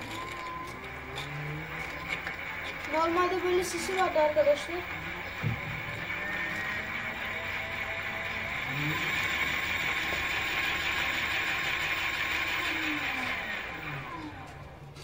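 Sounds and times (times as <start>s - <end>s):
faint motor whine: 0.0s - 15.0s
motorbike wheel whirring: 0.0s - 15.0s.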